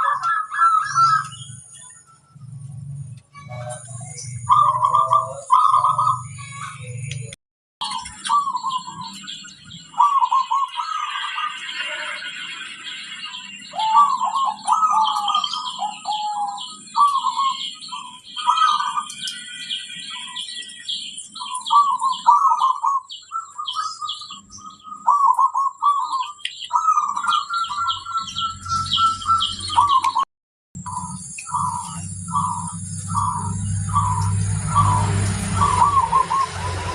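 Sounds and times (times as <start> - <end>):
doves cooing: 0.0 - 1.6, 2.4 - 6.8, 7.8 - 30.2, 30.8 - 36.9
small birds chirping: 0.0 - 36.9.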